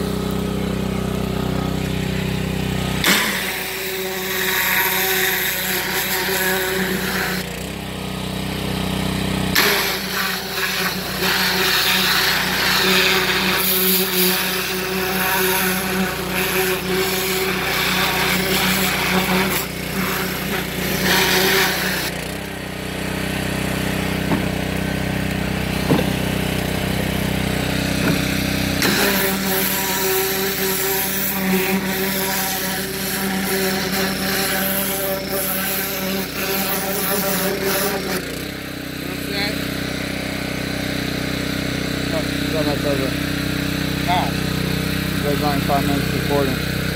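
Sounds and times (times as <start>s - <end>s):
pressure washer engine running: 0.0s - 46.9s
high-pressure water jet hissing: 1.6s - 46.9s.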